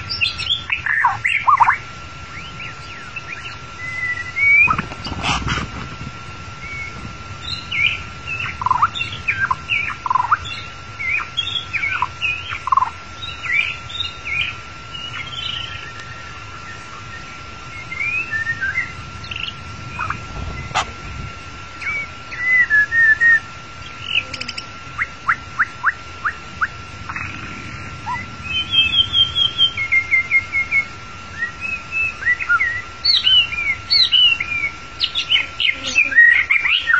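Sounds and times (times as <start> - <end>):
songbird whistled song: 0.0 - 5.2, 6.6 - 20.9, 21.7 - 27.4, 28.0 - 36.9.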